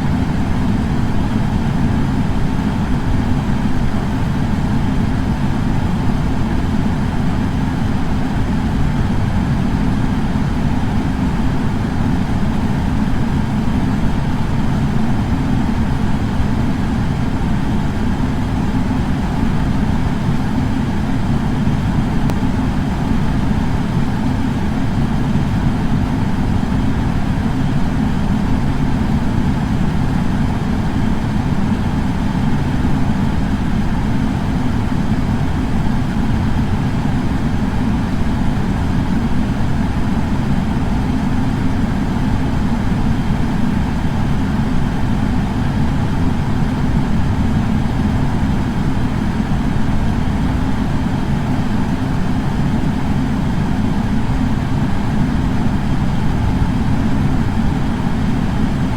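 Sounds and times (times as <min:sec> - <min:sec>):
air purifier fan running: 0:00.0 - 0:58.9.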